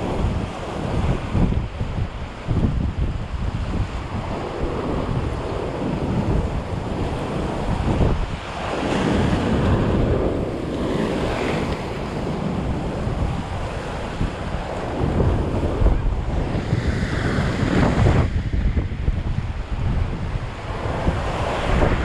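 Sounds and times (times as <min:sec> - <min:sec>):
surf breaking against a seawall: 0:00.0 - 0:22.0
wind buffeting microphone: 0:00.0 - 0:22.0.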